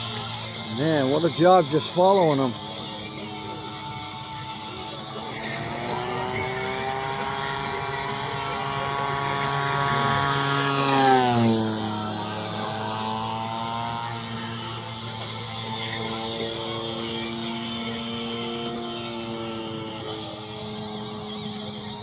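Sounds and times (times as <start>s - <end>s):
model airplane engine passing: 0.0s - 22.0s.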